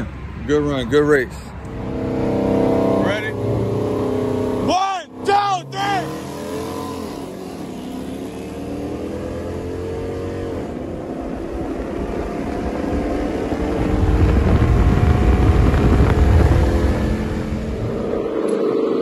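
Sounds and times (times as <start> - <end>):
car engine at full throttle: 1.5 - 19.0.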